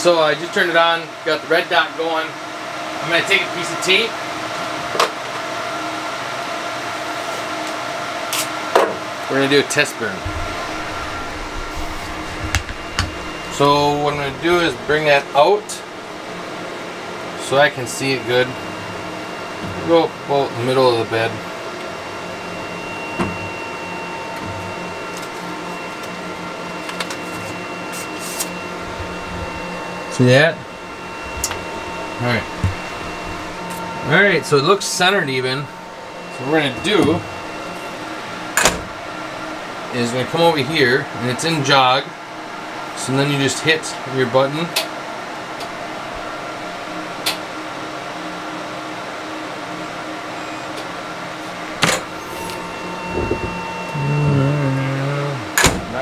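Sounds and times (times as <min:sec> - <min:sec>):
laser engraver humming with high whine: 0:00.0 - 0:56.0.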